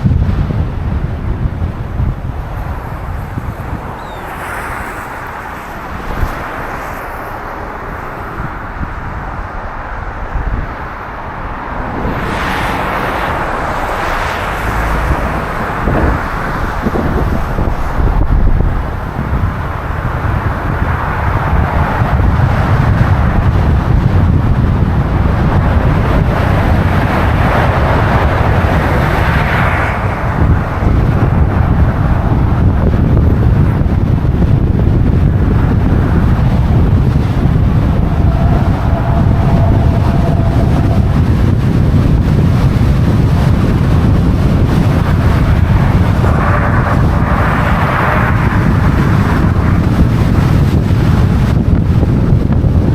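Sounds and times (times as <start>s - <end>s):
city street traffic: 0.0s - 52.9s
wind buffeting microphone: 0.0s - 52.9s.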